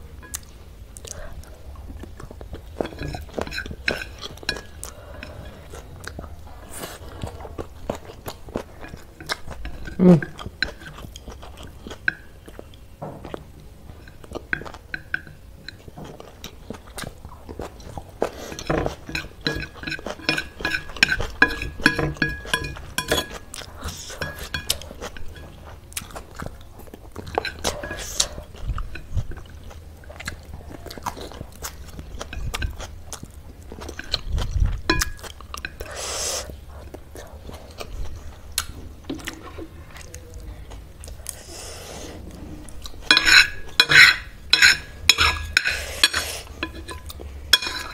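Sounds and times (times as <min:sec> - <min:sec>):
wet chewing of noodles: 0:00.0 - 0:47.9.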